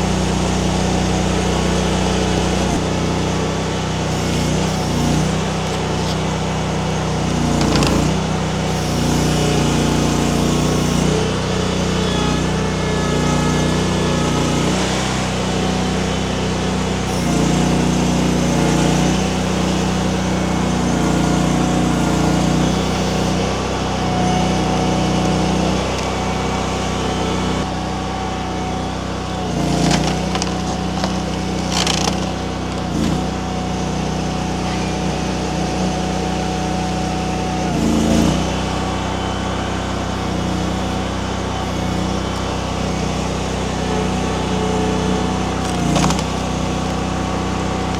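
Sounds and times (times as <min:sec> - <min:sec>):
skid steer engine running: 0:00.0 - 0:47.9.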